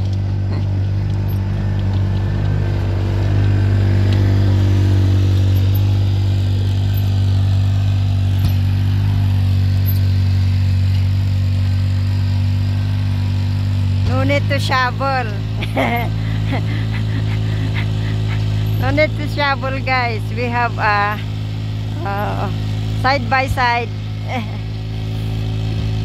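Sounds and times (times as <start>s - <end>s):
vehicle engine droning under load: 0.0s - 26.0s.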